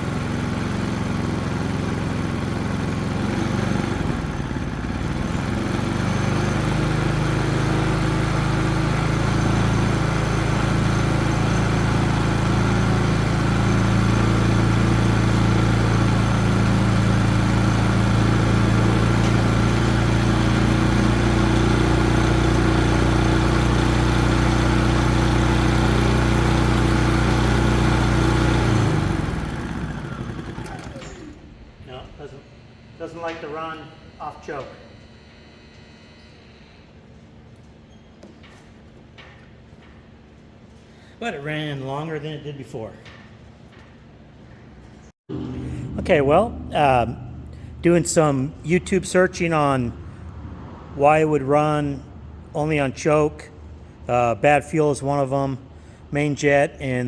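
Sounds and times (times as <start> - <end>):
generator engine running: 0.0 - 50.4.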